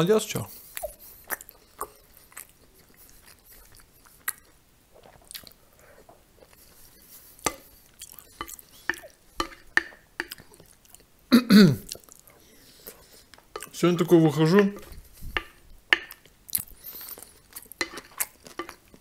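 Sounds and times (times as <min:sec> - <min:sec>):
close chewing of soft food: 0:00.6 - 0:19.0.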